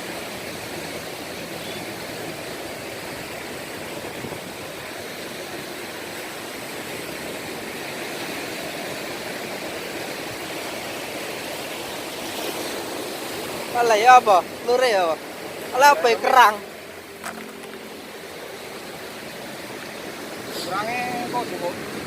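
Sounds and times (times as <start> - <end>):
choppy sea water rushing: 0.0 - 22.0.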